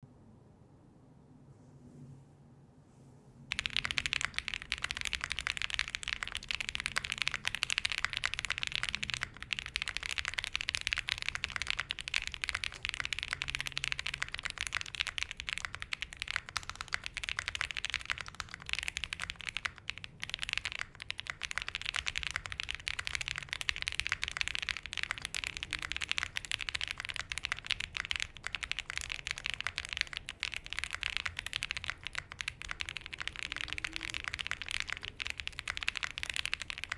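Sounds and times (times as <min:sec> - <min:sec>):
mechanical keyboard typing: 0:03.5 - 0:36.9.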